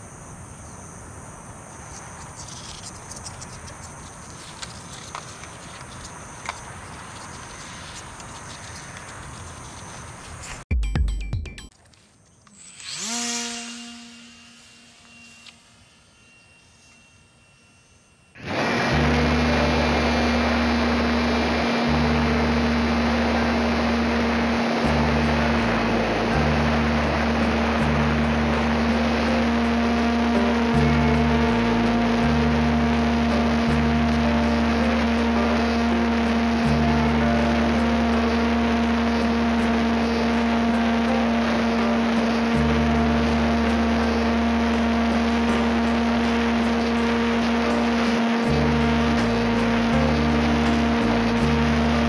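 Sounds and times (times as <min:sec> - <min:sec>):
electric motor and propeller hum: 0:00.0 - 0:10.6, 0:11.9 - 0:52.0.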